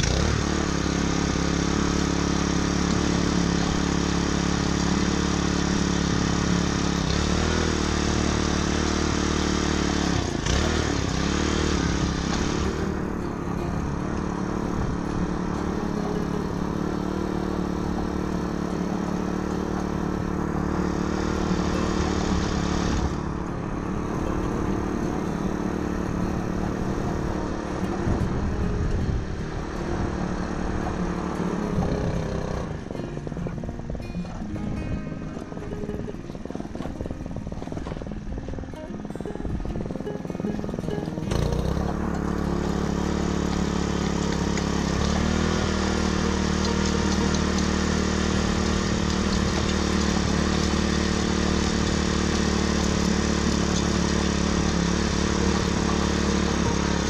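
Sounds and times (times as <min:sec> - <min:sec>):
small tiller engine running: 0:00.0 - 0:57.0.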